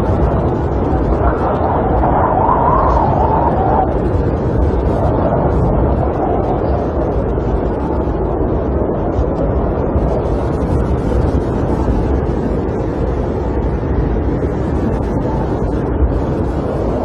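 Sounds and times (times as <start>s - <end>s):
wind blowing against camper: 0.0s - 17.0s.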